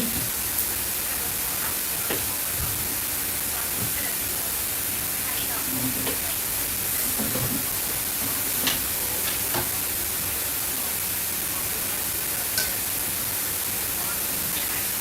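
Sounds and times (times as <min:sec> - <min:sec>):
steady hissing noise: 0:00.0 - 0:15.0.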